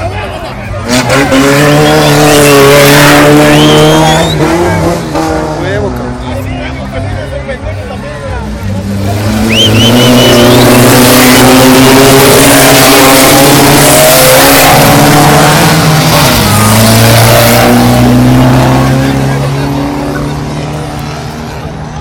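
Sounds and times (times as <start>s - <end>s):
race car engine revving loud: 0.8s - 6.4s, 8.5s - 21.7s.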